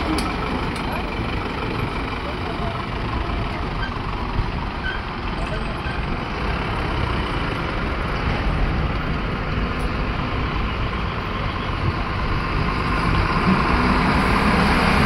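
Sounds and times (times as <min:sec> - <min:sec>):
truck engine driving past: 0:00.0 - 0:15.0.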